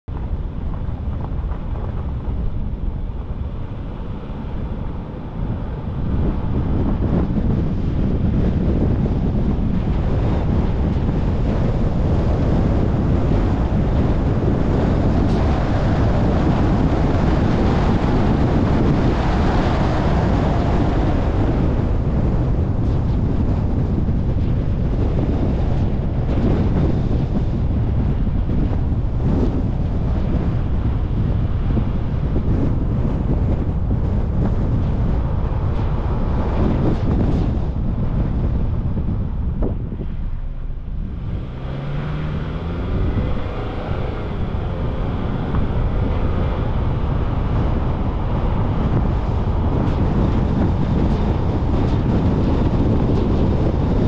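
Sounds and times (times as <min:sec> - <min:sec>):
car road noise: 0:00.0 - 0:54.0
wind buffeting microphone: 0:00.0 - 0:54.0.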